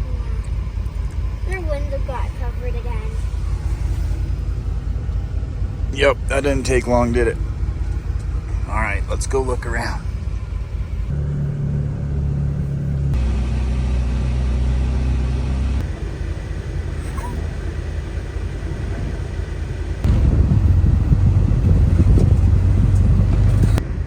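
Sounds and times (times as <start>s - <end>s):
rough low rumble: 0.0s - 23.9s
vehicle engine driving: 0.0s - 24.0s.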